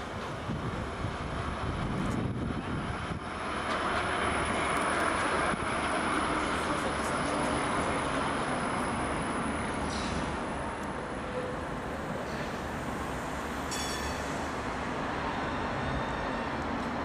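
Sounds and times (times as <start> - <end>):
tram wheels rolling on rail: 0.0 - 17.0.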